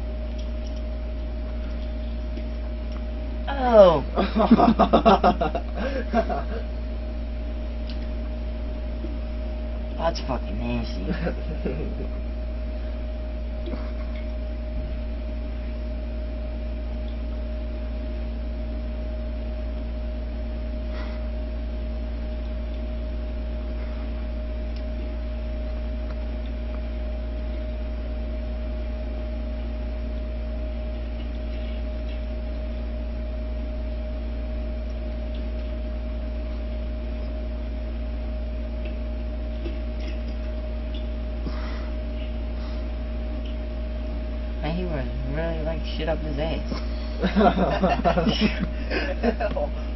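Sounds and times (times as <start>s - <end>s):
steady hum with low drone: 0.0s - 49.9s.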